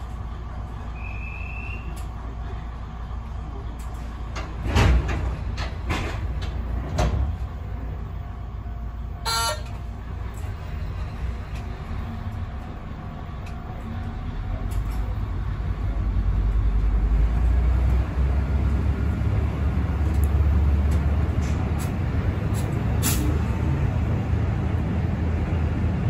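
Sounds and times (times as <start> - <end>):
diesel railcar rumbling: 0.0 - 26.0.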